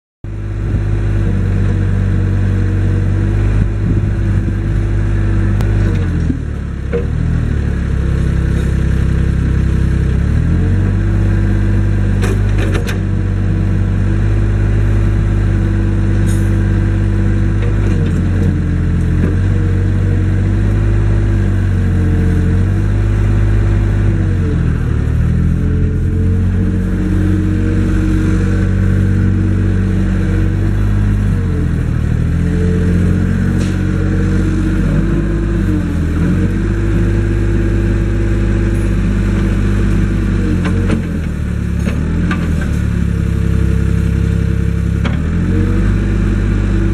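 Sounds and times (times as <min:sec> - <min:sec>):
excavator diesel engine running: 0:00.2 - 0:46.9.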